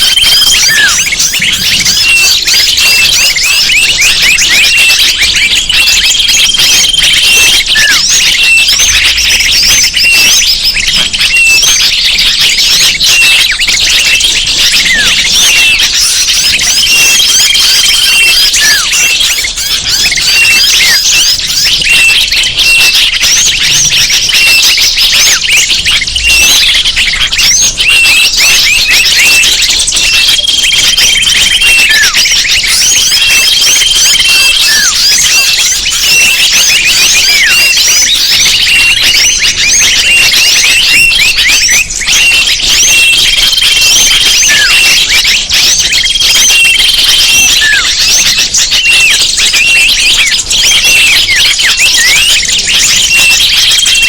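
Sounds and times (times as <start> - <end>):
chorus of small birds chirping: 0.0 - 54.0
held bird whistle: 0.0 - 54.0.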